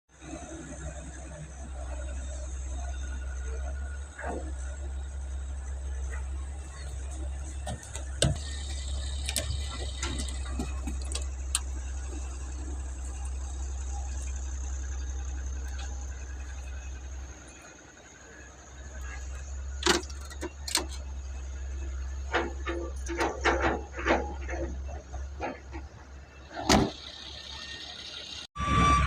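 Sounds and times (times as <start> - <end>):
diesel engine rumbling: 0.1 - 29.0.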